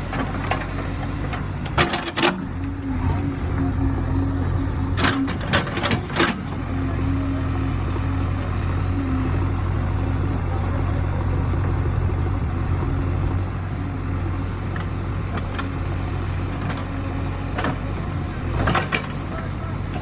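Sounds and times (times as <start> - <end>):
diesel engine running at low revs: 0.0 - 20.0.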